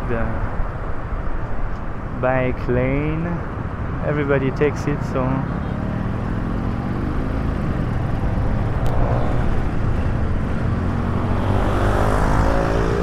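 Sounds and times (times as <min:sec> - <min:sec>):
city road traffic: 0:00.0 - 0:13.0.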